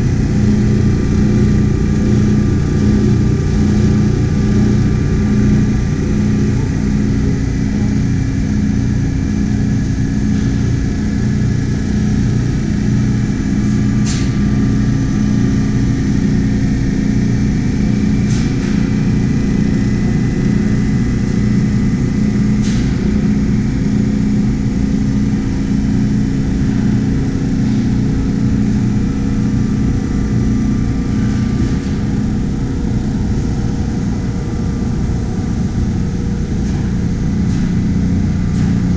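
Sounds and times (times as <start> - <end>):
machine motor and fan hum: 0.0 - 38.9.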